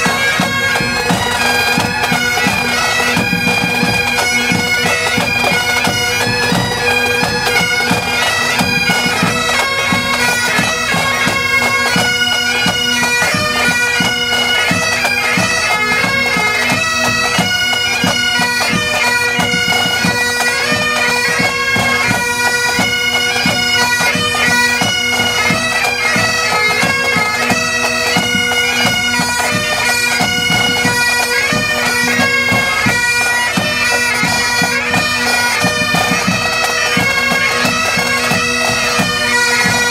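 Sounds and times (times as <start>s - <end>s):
bagpipe drones humming: 0.0s - 39.9s
bagpipes playing a tune: 0.0s - 39.9s.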